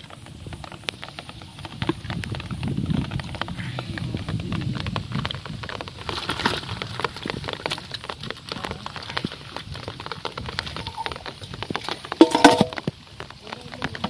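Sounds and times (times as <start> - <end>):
fish flapping in a bucket: 0.0 - 14.0.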